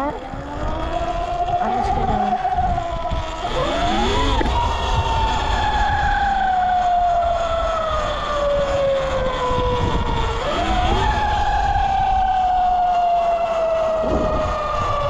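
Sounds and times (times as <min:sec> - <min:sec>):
electric motorbike motor whining: 0:00.0 - 0:15.0
wind rumbling on microphone: 0:00.0 - 0:15.0.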